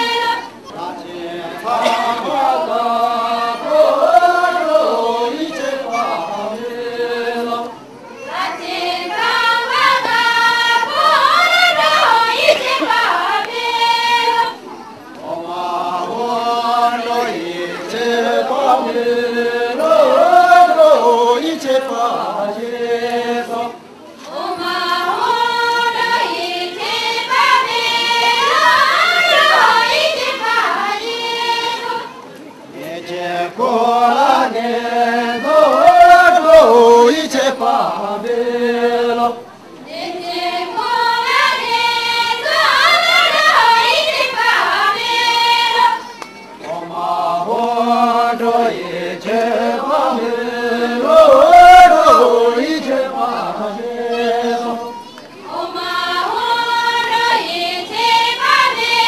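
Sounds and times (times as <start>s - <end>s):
group of voices singing: 0.0s - 59.0s.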